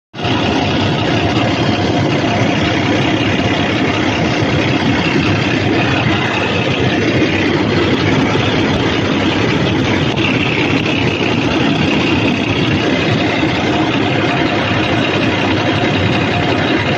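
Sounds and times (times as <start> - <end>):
diesel engine idling: 0.2 - 16.9.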